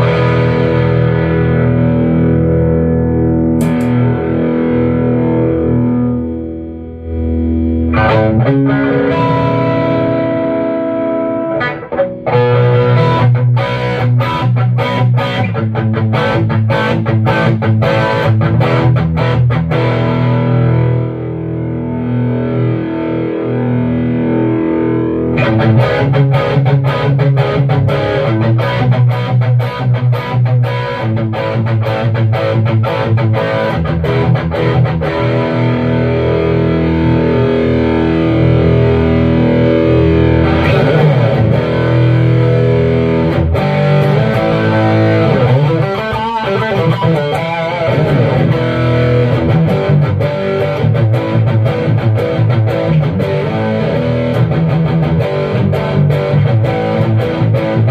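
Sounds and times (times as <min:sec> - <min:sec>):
distorted electric guitar: 0:00.0 - 0:57.9.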